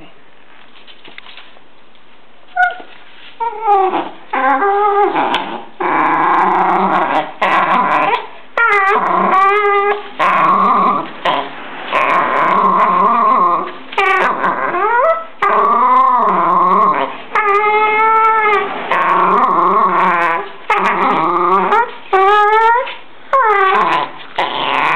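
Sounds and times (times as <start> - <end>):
dog whining growls: 2.5 - 24.9.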